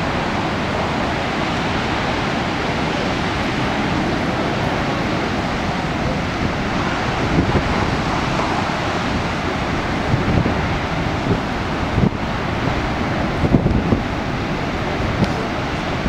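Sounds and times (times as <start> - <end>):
heavy ocean surf: 0.0 - 16.0
wind buffeting microphone: 0.0 - 16.0.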